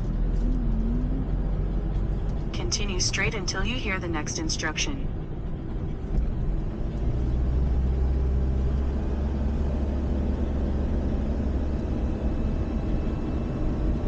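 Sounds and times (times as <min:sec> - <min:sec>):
road noise: 0:00.0 - 0:14.0
van engine drone: 0:00.0 - 0:14.0.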